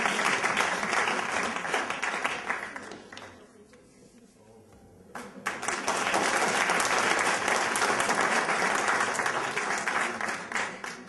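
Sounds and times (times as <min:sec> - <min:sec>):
audience applauding: 0:00.0 - 0:03.4, 0:05.4 - 0:11.0.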